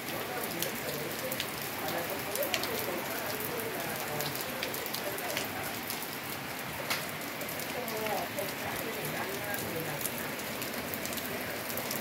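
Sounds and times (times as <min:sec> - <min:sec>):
raindrops ticking: 0:00.0 - 0:12.0.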